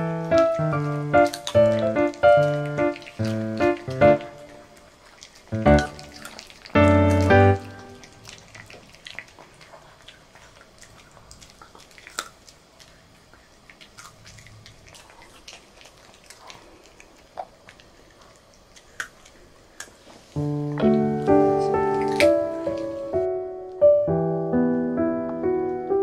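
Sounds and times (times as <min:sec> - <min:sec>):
dog chewing a treat: 0:00.0 - 0:23.2.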